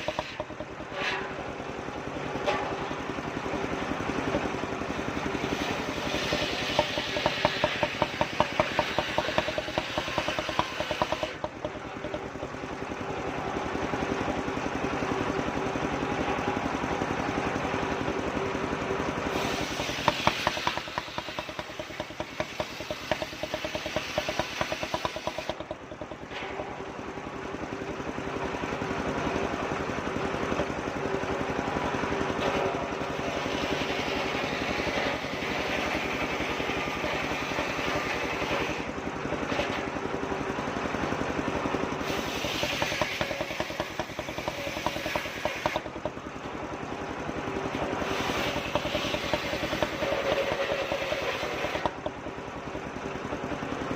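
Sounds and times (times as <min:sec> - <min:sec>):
sawmill engine running: 0:00.0 - 0:53.9.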